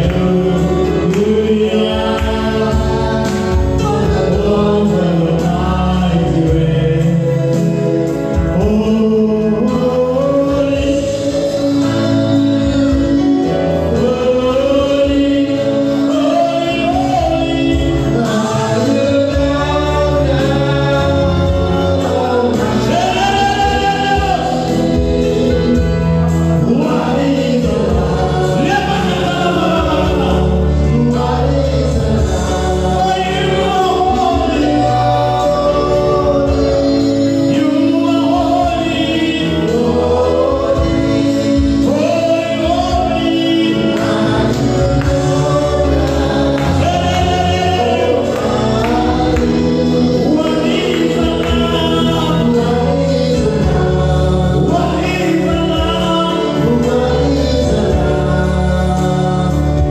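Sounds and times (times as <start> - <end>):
choir singing gospel: 0.0 - 59.9.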